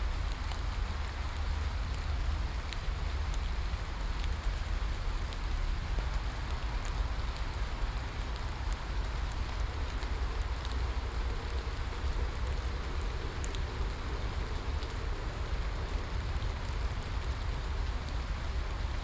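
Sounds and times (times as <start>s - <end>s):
steady rain falling: 0.0s - 19.0s
raindrop ticks: 0.2s - 19.0s.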